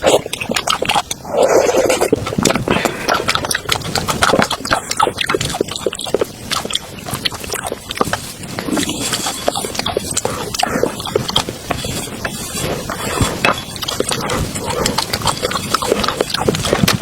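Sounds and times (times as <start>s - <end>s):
lip smacks: 0.0s - 17.0s
mouth clicks: 0.0s - 17.0s
wet chewing: 0.0s - 17.0s.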